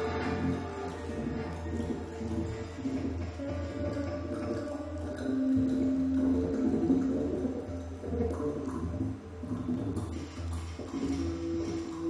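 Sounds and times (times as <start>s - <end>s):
music with held low tones: 0.0s - 12.0s.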